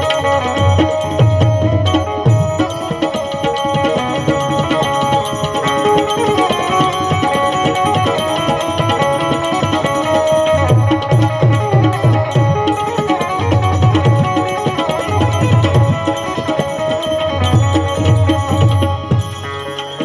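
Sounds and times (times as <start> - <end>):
hand drums steady beat: 0.0 - 20.0.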